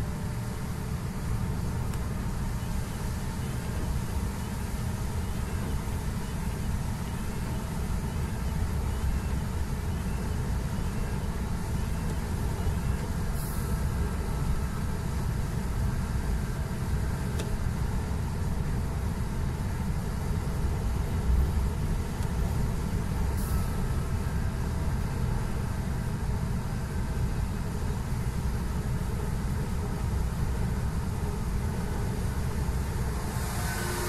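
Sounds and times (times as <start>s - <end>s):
truck engine rumble: 0.0s - 34.0s.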